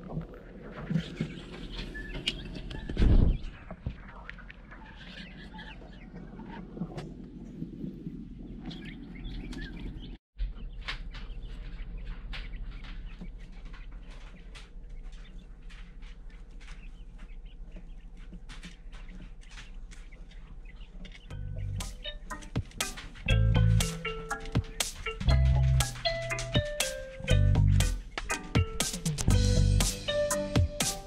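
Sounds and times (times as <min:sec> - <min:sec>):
steady low hum: 0:00.0 - 0:29.8
quail chicks peeping: 0:00.1 - 0:30.5.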